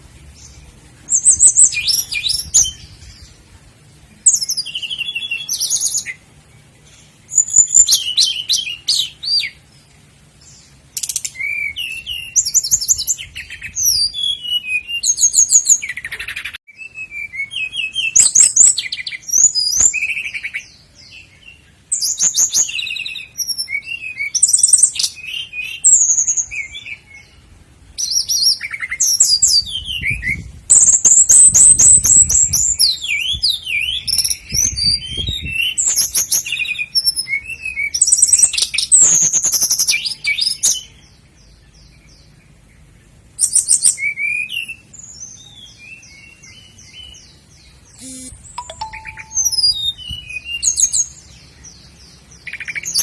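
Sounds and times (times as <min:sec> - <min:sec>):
nightingale singing: 0:00.0 - 0:53.0.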